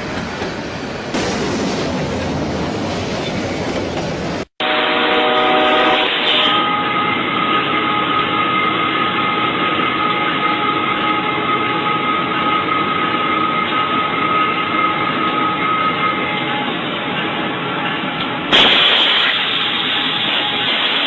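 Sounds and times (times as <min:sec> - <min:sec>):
train running on track: 0:00.0 - 0:21.0.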